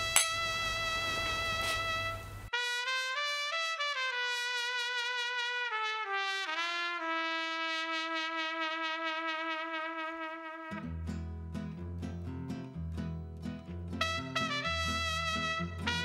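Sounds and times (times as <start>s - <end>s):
solo brass-like melody: 0.0s - 11.1s, 13.9s - 16.0s.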